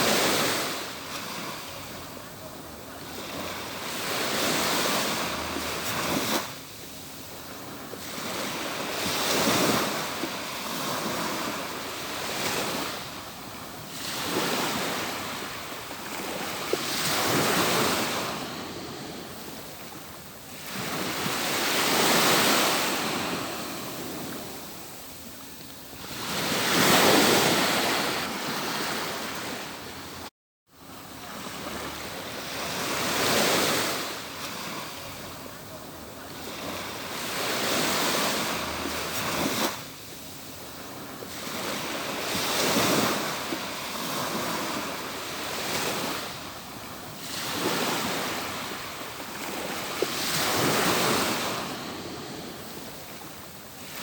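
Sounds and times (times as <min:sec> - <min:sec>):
surf breaking on a beach: 0:00.0 - 0:30.2, 0:30.8 - 0:54.0.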